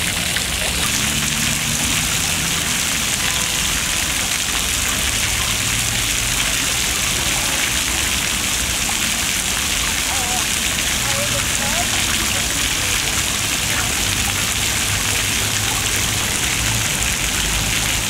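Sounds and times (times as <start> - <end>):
fountain water splashing on stone: 0.0 - 18.0.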